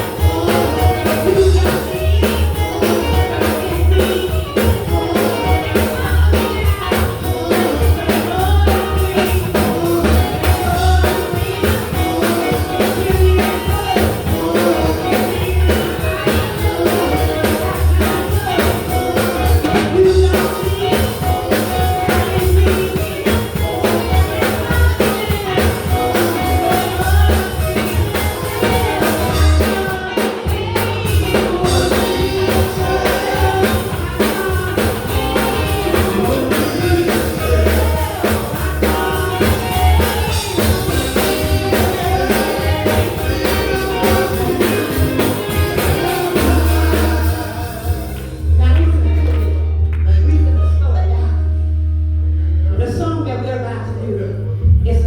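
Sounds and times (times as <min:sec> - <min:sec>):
drum kit: 0:00.0 - 0:49.6
guitar: 0:00.0 - 0:55.0
keyboard: 0:00.0 - 0:55.0
person singing: 0:00.0 - 0:55.0.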